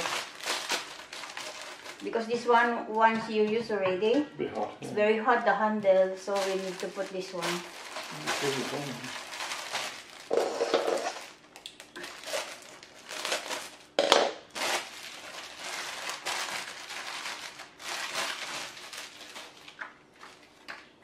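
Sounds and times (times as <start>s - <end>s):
plastic packaging crinkling: 0.0s - 3.6s, 6.0s - 21.0s.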